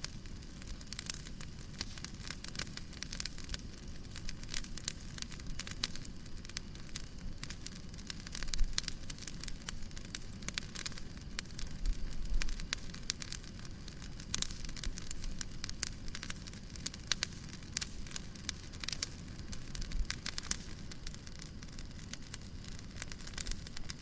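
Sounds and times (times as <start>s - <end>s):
low rumble of burning: 0.0s - 24.0s
wood fire crackling: 0.0s - 24.0s.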